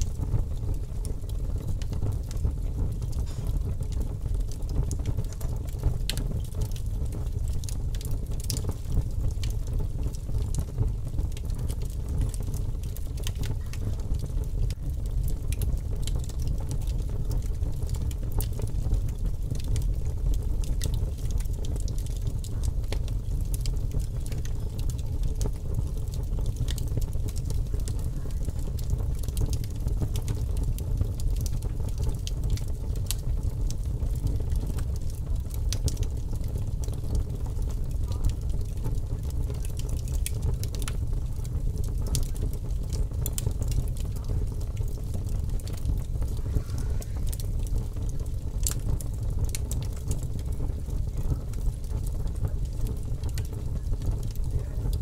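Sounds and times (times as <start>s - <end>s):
fire crackling and popping: 0.0s - 55.0s
low fire rumble: 0.0s - 55.0s.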